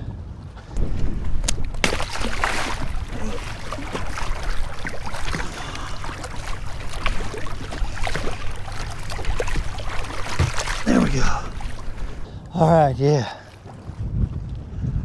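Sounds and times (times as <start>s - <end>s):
wind buffeting microphone: 0.0s - 15.0s
water sloshing around boat: 0.8s - 14.5s.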